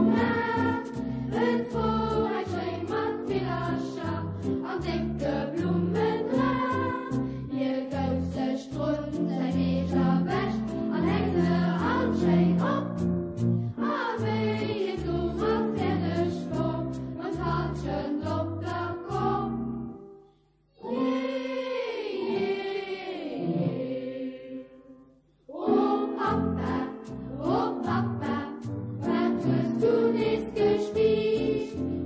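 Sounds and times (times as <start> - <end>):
choir singing: 0.0 - 13.1, 13.8 - 19.9, 20.8 - 32.0.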